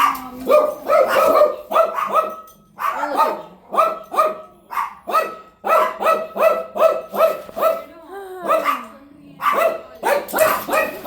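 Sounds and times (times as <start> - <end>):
dog barking: 0.0 - 11.0.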